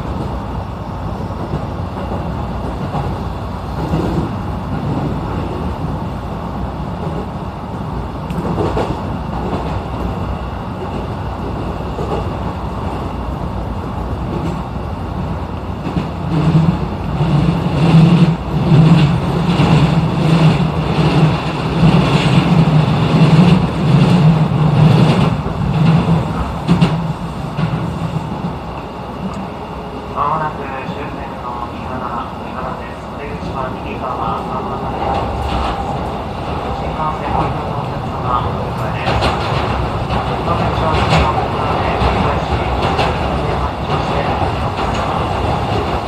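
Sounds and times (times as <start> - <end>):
train clatter: 0.0 - 46.0
train wheels rumbling on rail: 0.0 - 46.0.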